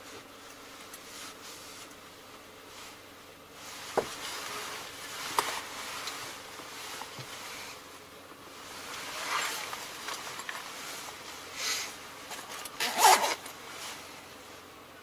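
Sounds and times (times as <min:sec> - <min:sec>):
faint road noise: 0:00.0 - 0:15.0.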